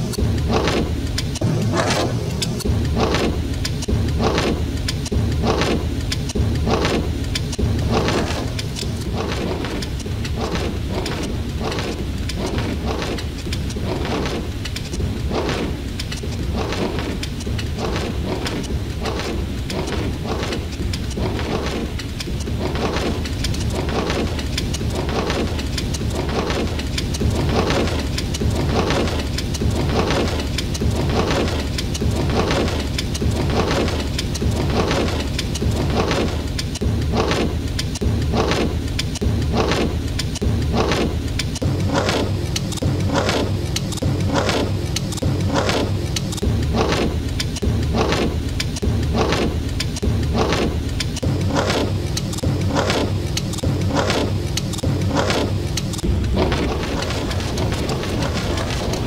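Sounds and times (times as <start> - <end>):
windshield wipers sweeping: 0.0 - 59.0
rain on car windscreen: 2.4 - 59.0.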